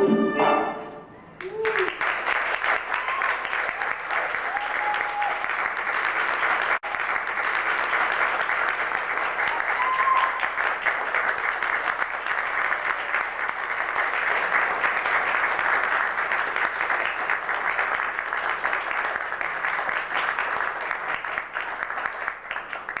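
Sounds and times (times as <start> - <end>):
audience applauding: 1.4 - 23.0.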